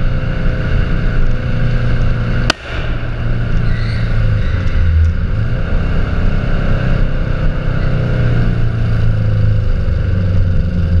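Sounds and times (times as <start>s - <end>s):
car exhaust deep drone: 0.0s - 11.0s.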